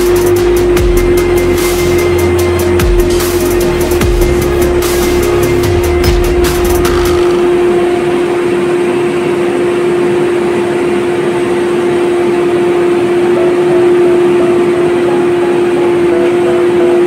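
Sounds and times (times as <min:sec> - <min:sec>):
diesel engine running: 0:00.0 - 0:17.0
pitched machinery hum: 0:00.0 - 0:17.0.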